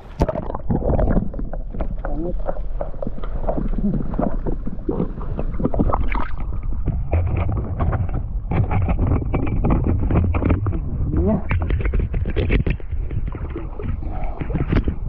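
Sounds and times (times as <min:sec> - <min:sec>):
water sloshing against camera: 0:00.0 - 0:15.0.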